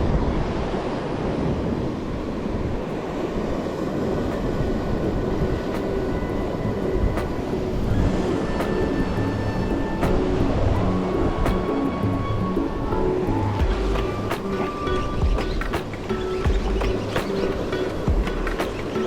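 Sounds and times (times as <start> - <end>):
faint music tones: 0.0 - 19.0
ocean surf: 0.0 - 19.0
wind buffeting microphone: 0.0 - 19.0.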